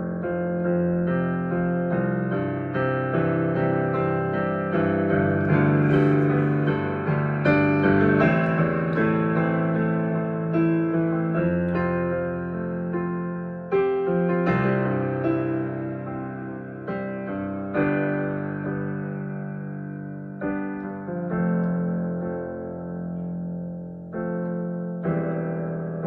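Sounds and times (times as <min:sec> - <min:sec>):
solo piano chords and melody: 0:00.0 - 0:26.0.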